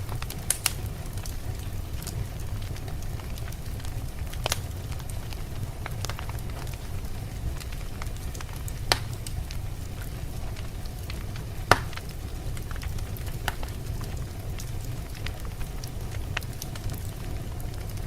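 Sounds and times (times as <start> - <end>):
wood fire crackling: 0.0 - 18.0
loud sharp fire pops: 0.1 - 18.0.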